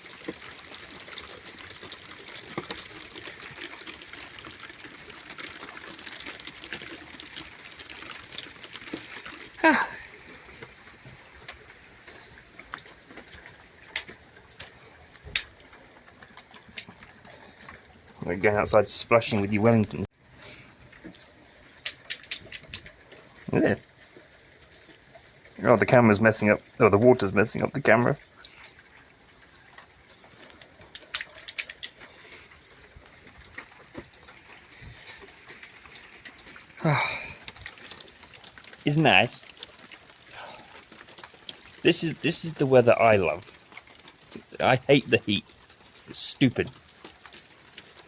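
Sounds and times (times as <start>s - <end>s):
light rain falling: 0.0s - 48.0s
raindrops tapping close by: 0.0s - 48.0s.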